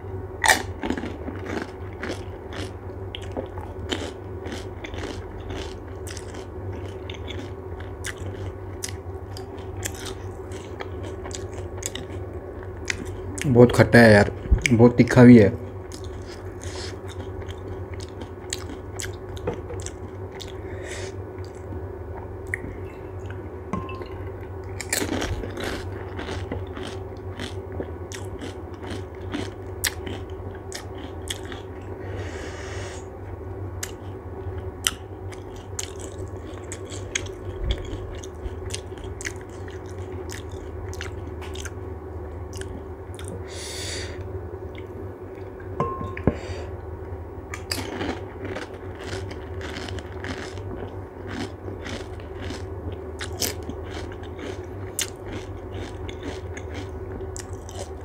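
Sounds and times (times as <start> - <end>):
steady low hum: 0.0 - 58.0
crunchy chewing and biting: 0.4 - 13.7, 15.6 - 21.7, 24.2 - 32.2, 33.8 - 41.8, 42.4 - 45.6, 47.5 - 58.0.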